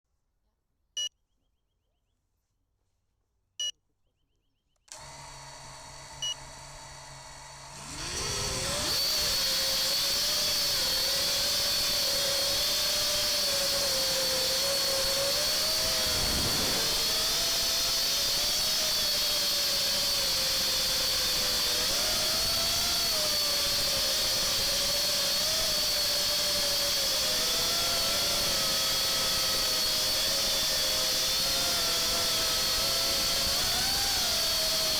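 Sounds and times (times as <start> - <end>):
quadcopter propeller whine: 5.0 - 34.9.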